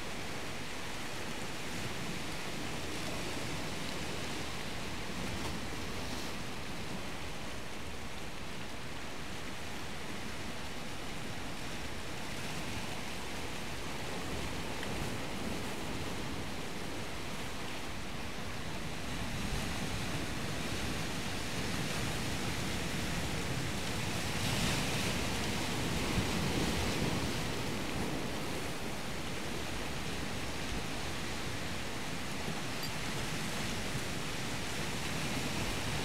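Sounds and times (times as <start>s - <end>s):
surf washing on shore: 0.0s - 36.0s.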